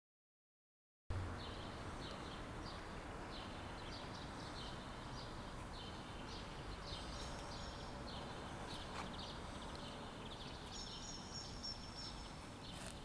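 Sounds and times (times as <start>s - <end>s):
outdoor background hiss: 1.1s - 13.0s
small bird chirping: 1.4s - 13.0s.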